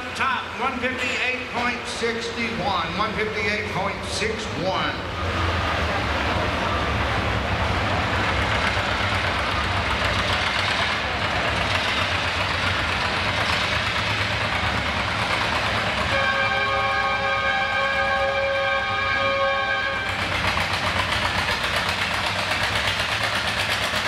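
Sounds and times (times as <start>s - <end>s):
tractor engine running under load: 0.0s - 17.5s, 19.2s - 24.0s.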